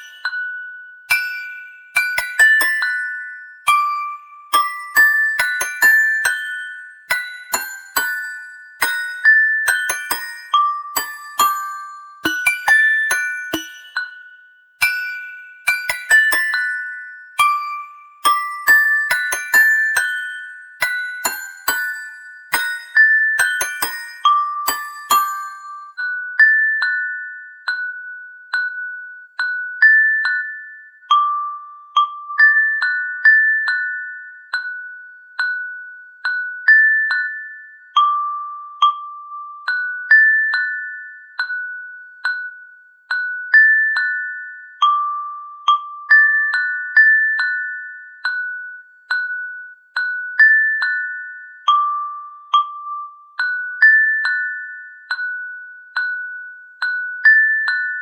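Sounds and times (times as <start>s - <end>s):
slow glockenspiel tune: 0.0s - 58.0s.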